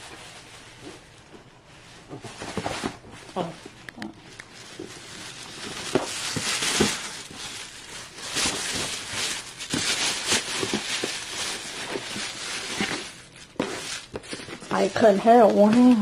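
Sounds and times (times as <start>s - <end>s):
plastic bag rustling: 0.0s - 16.0s.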